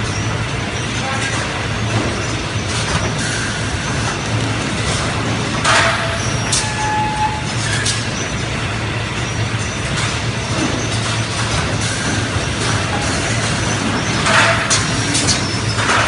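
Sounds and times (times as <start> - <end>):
low machine hum: 0.0 - 16.0
packaging robots and conveyors: 0.0 - 16.0.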